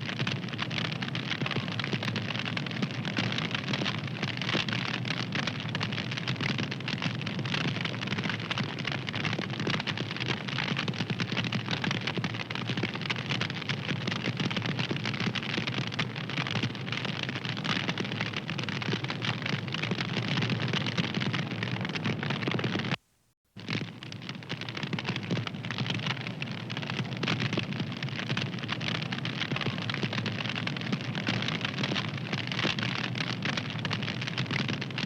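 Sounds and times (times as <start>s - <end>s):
fire crackling: 0.0s - 35.0s.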